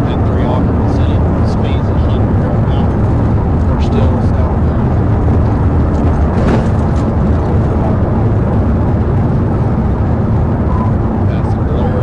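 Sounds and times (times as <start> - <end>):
car engine at high speed: 0.0 - 12.0
tyre and wind noise: 0.0 - 12.0.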